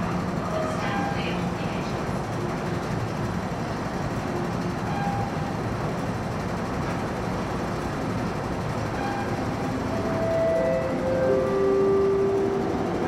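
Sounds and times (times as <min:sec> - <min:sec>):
metro train humming: 0:00.0 - 0:13.0.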